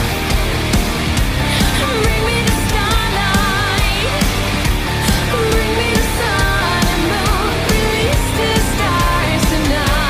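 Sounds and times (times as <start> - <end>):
song with drums and wavering melody: 0.0 - 10.0.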